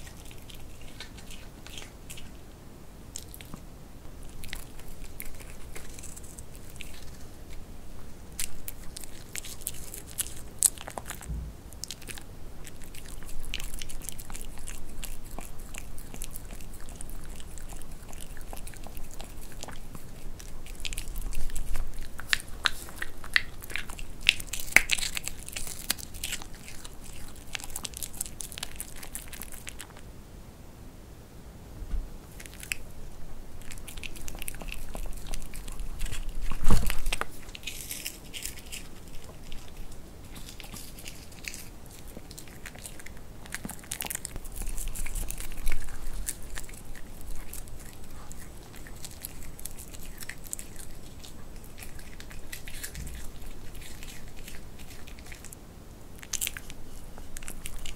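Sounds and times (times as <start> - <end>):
dog crunching chips: 0.0 - 2.5, 3.1 - 30.0, 32.2 - 57.9.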